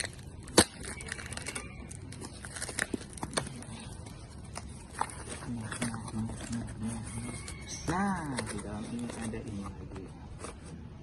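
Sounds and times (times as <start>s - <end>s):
packaging crinkling and tearing: 0.0s - 10.6s.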